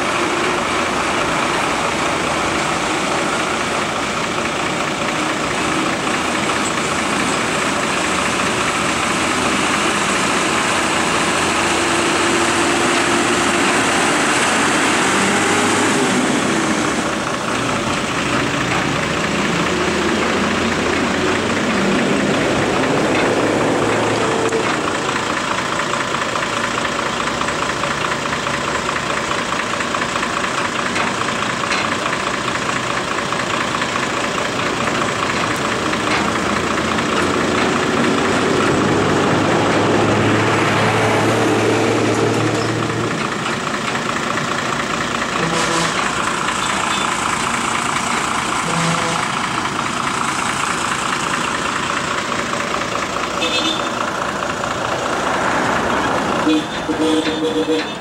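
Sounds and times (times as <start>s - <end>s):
truck diesel engine idling and revving: 0.0s - 58.0s.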